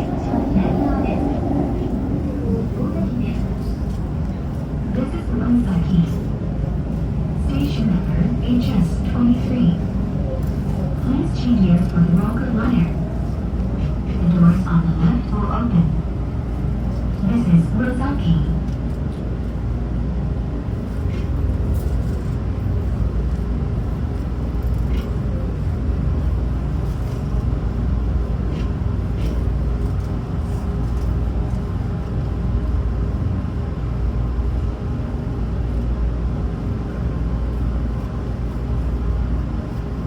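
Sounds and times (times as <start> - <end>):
train car rumble: 0.0 - 40.0.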